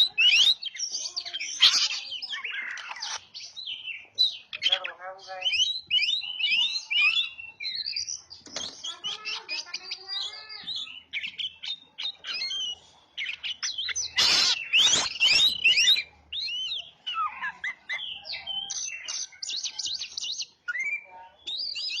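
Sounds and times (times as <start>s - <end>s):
bird singing whistles and chirps: 0.0s - 22.0s.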